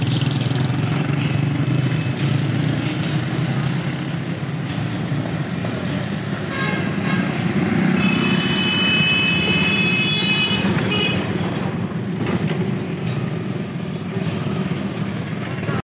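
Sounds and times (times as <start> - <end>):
traffic engine and road noise: 0.0 - 15.8.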